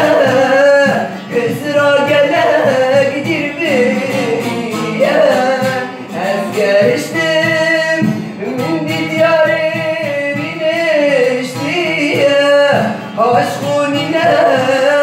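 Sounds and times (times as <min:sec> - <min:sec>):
instrumental accompaniment: 0:00.0 - 0:15.0
man singing ornamented notes: 0:00.0 - 0:15.0.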